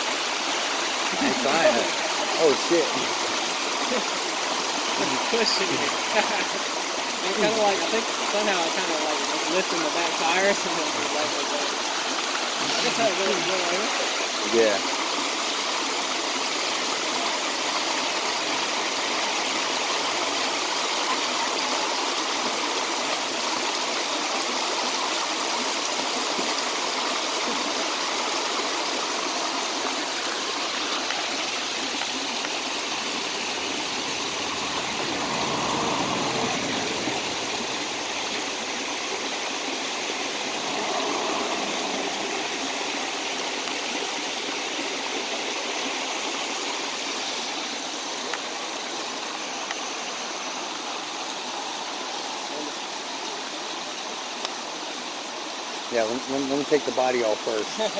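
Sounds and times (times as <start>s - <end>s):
creek rushing over rocks: 0.0s - 57.9s.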